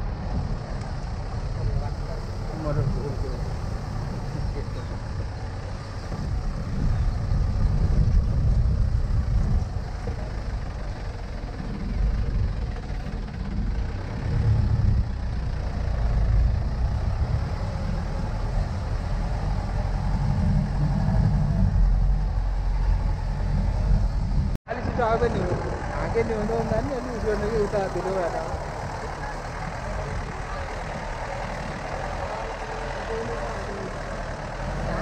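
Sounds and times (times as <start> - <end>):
vehicle on rough road: 0.0 - 35.0.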